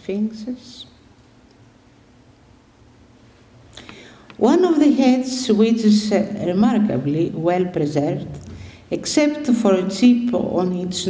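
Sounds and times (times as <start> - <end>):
low even hum: 0.0 - 11.0.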